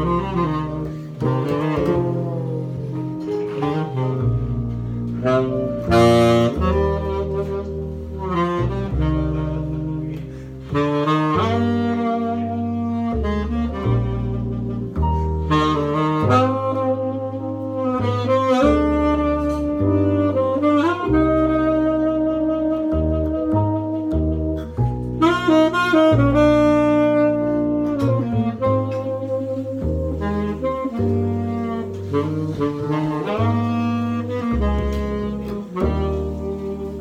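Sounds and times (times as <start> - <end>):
upright double bass playing: 0.0 - 37.0.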